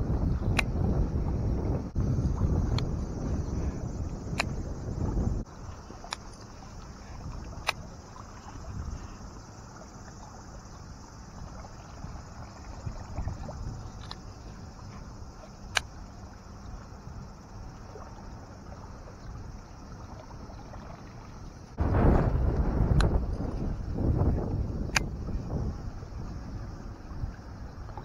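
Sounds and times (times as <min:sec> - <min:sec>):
small waves lapping: 0:00.0 - 0:28.0
wind on microphone: 0:00.0 - 0:28.0.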